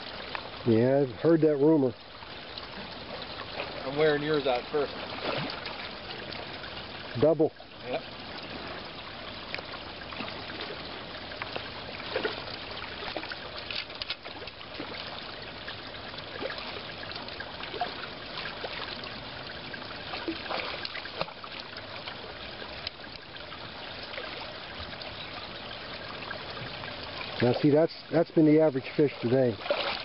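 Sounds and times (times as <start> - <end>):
creek water running: 0.0 - 30.0
small water splashes: 0.0 - 30.0.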